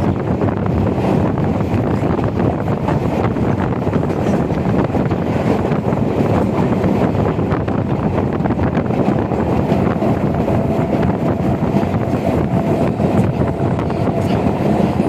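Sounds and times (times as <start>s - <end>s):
train rumbling: 0.0s - 15.0s
wind buffeting microphone: 0.0s - 15.0s.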